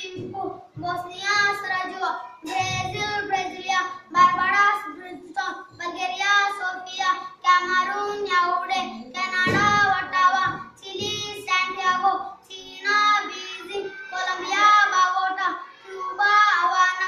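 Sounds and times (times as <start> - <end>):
boy singing unaccompanied: 0.0 - 17.0.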